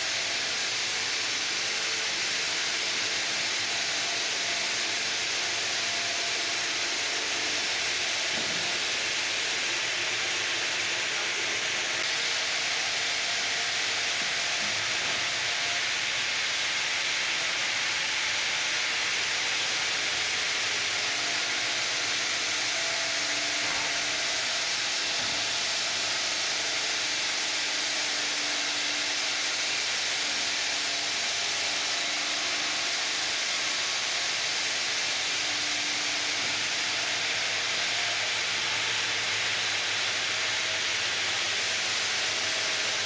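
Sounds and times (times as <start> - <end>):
saw grinding through stone: 0.0 - 43.0.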